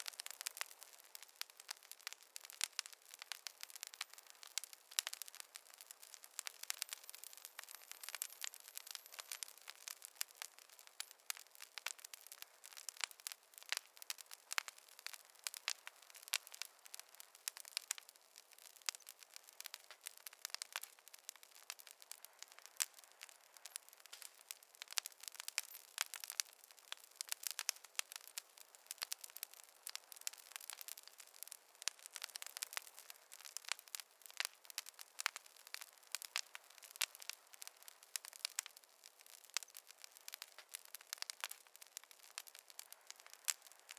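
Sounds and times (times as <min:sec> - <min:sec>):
faint hiss: 0:00.0 - 0:43.9
wood fire crackling and popping: 0:00.0 - 0:43.9.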